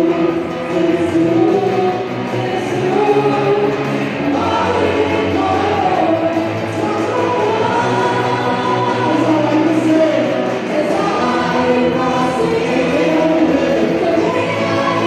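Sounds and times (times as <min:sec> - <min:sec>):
congregation singing gospel song: 0:00.0 - 0:15.0
live band with keyboard and guitar: 0:00.0 - 0:15.0.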